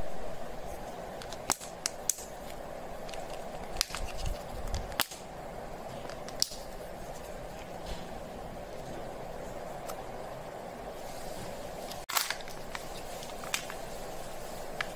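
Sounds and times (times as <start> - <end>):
steady background hum: 0.0 - 14.9.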